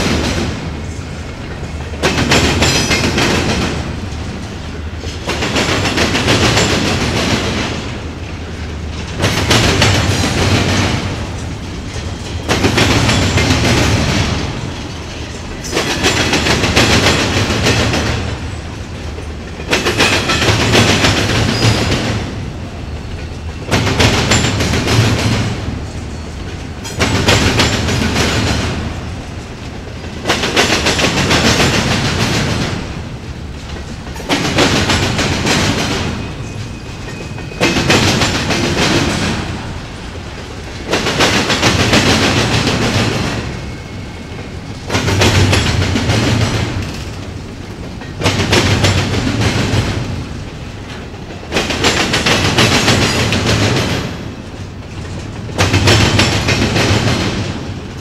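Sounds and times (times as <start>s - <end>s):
train wheels clattering over crossing: 0.0s - 58.0s.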